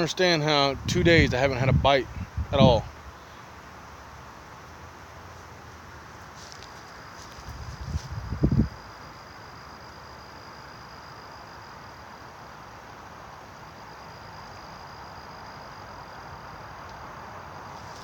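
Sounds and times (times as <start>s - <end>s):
constant hiss: 0.0s - 18.0s
insect trill: 0.0s - 18.0s.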